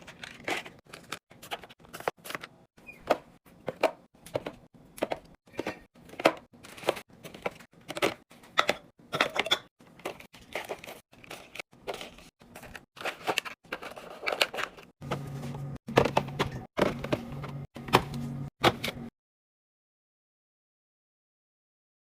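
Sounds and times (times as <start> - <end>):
items knocking and clicking: 0.0 - 19.1.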